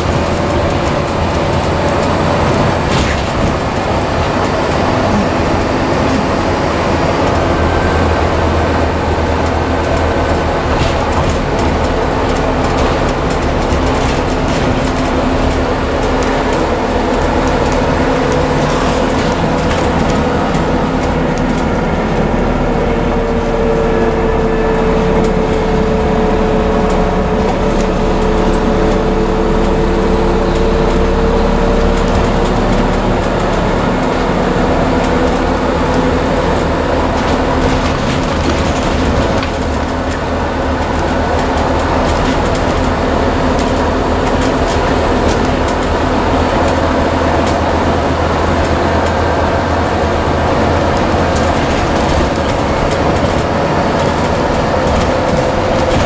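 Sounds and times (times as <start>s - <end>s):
bus diesel engine drone: 0.0s - 56.0s
interior rattles: 0.0s - 56.0s.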